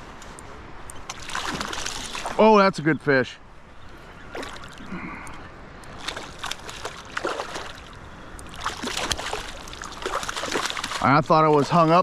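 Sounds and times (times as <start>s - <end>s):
water splashing and sloshing: 0.0s - 2.8s, 3.6s - 12.0s.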